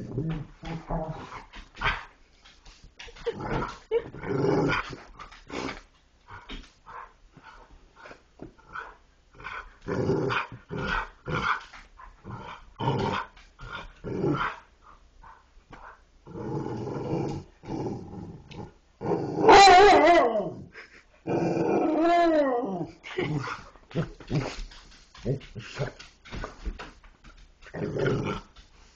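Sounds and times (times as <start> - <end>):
dogs growling and grumbling: 0.0 - 2.2, 3.0 - 6.7, 8.5 - 14.7, 16.2 - 27.0, 27.6 - 28.9.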